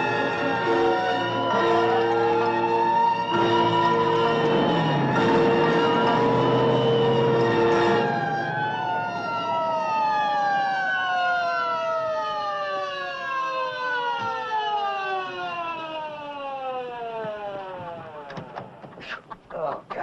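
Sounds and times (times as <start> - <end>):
siren winding down: 0.0 - 18.6.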